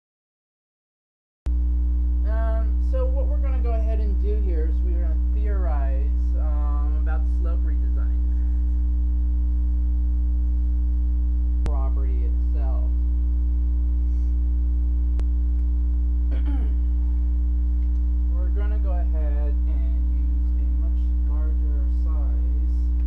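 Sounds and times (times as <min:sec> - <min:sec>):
electrical mains hum: 0:01.5 - 0:23.0.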